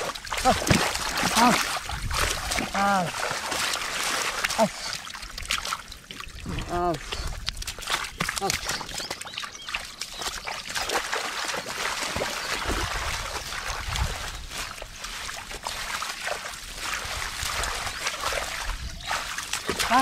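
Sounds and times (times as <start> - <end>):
muddy water splashing: 0.0 - 20.0.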